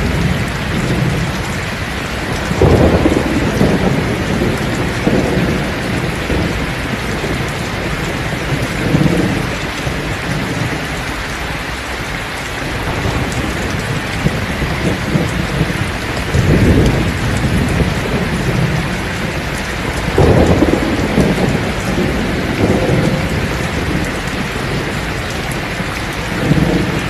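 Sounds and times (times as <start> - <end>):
thunder rolling: 0.0 - 10.8, 12.7 - 27.0
heavy rain pouring: 0.0 - 27.0.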